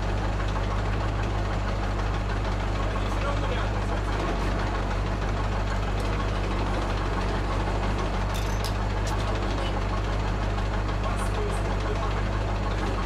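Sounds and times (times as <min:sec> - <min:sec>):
truck crane engine idling: 0:00.0 - 0:13.0.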